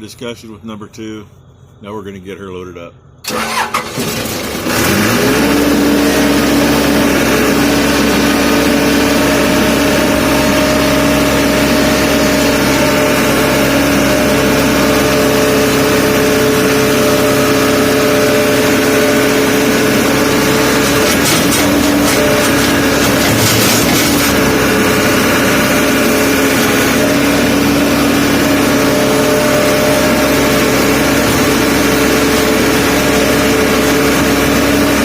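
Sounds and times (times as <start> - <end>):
skid steer engine revving: 3.2 - 35.0.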